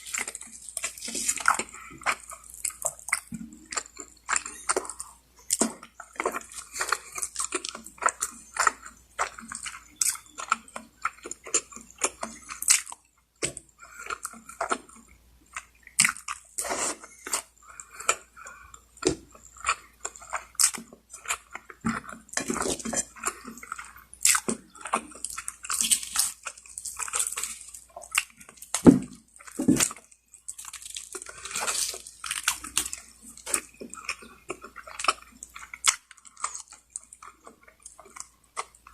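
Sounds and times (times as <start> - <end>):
mouth smacks and clicks: 0.0 - 38.9
person chewing chicken: 0.0 - 38.9.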